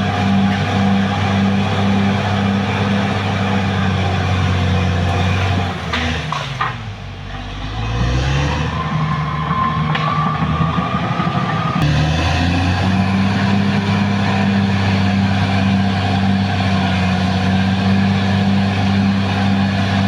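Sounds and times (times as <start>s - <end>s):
bulldozer diesel engine running: 0.0s - 7.8s, 10.2s - 20.0s.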